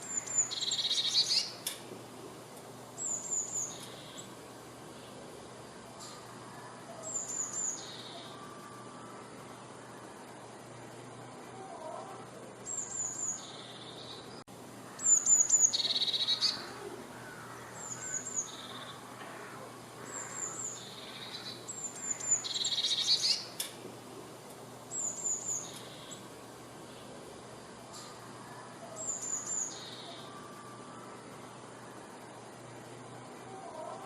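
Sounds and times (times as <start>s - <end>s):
bird song with buzzy trill: 0.0s - 23.7s, 24.6s - 34.0s.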